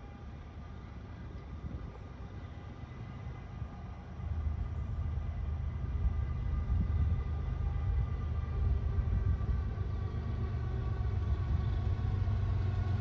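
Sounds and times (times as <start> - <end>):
freight train rumbling by: 0.0 - 13.0.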